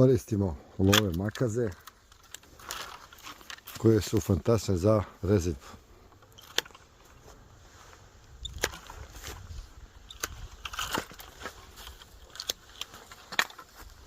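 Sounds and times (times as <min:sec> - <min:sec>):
twigs rustling: 0:00.8 - 0:14.0.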